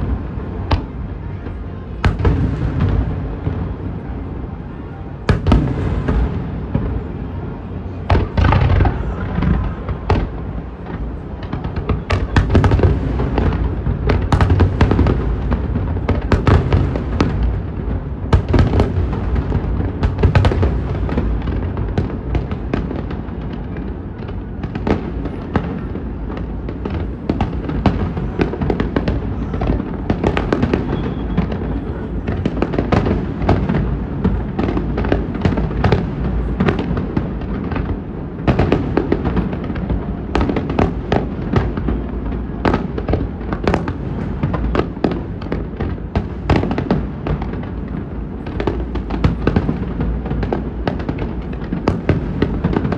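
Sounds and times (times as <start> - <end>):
firework booms: 0.0 - 52.9
firework bursts and crackling: 0.0 - 52.9.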